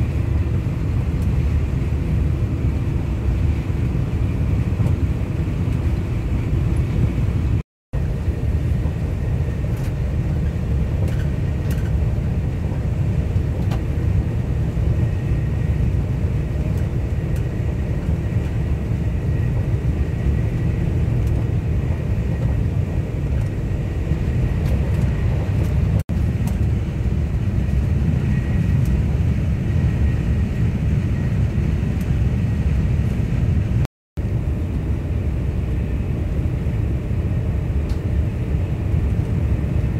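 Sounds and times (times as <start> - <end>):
train rumbling inside passenger car: 0.0 - 39.9.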